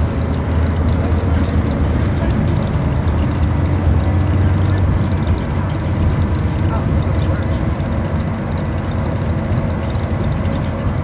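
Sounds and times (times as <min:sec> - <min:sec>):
bus engine low drone: 0:00.0 - 0:11.0
road noise: 0:00.0 - 0:11.0.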